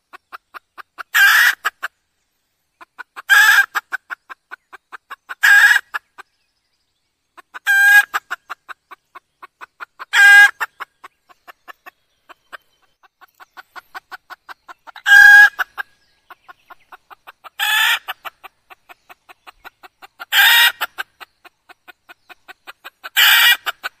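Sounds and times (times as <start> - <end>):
hen clucking loudly: 0.1 - 1.9, 2.8 - 6.2, 7.4 - 24.0.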